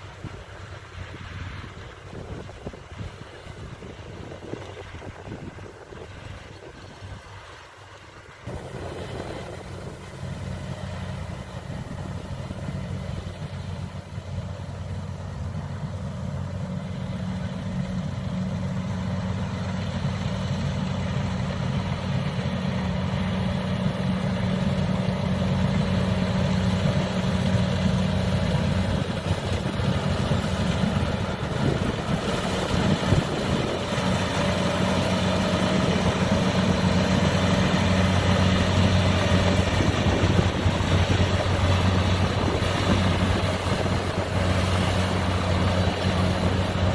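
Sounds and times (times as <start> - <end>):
diesel engine humming: 0.0 - 46.9.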